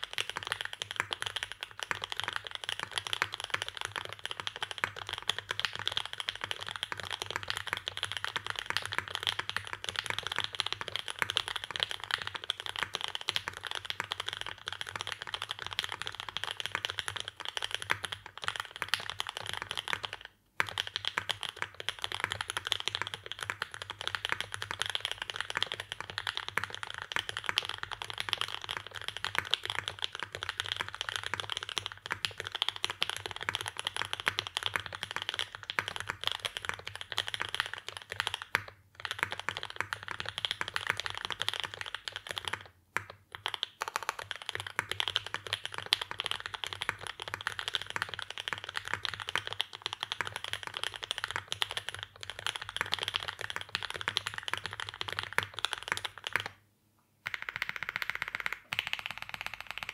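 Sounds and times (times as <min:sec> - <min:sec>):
typing on mechanical keyboard: 0:00.0 - 0:56.6, 0:57.2 - 0:59.9.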